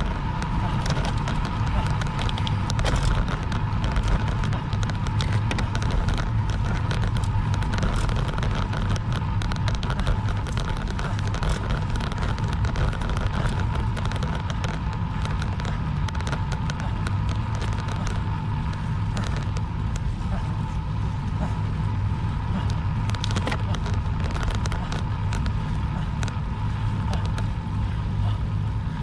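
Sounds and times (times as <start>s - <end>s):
bicycle road rumble with crackle: 0.0s - 29.0s
wind on microphone: 0.0s - 29.0s.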